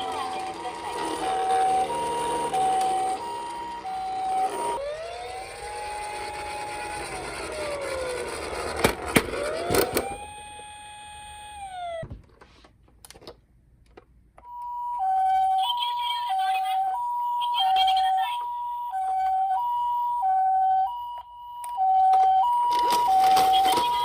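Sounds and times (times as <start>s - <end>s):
toy wailing siren: 0.0s - 8.8s, 9.4s - 12.0s, 14.5s - 24.0s
toy two-tone ambulance siren: 0.0s - 12.0s, 14.4s - 24.0s.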